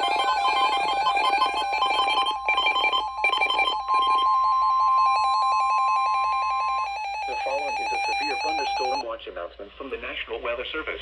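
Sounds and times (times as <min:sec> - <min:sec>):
steady alert tone: 0:00.0 - 0:09.0
warbling data tones: 0:00.0 - 0:09.0.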